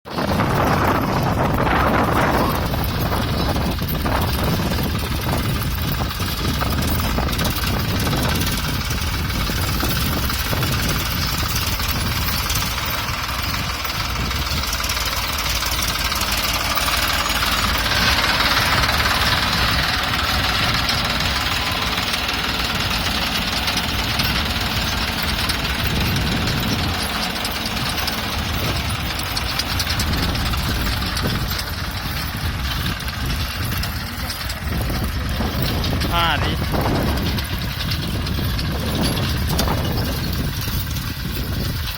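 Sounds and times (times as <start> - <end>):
weeding machine engine running: 0.1 - 41.9.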